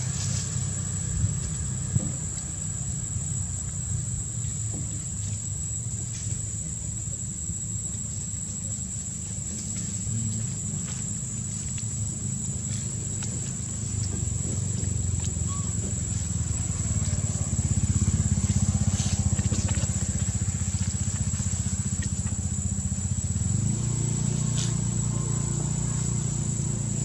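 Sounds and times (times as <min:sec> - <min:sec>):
high-pitched insect drone: 0:00.0 - 0:27.0
low pulsing rumble: 0:00.0 - 0:27.0.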